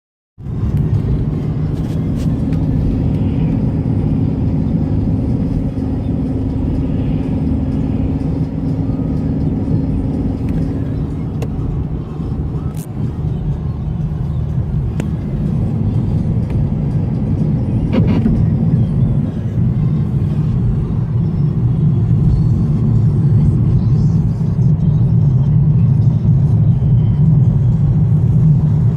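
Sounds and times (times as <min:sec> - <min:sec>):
car engine and road rumble: 0:00.4 - 0:28.9.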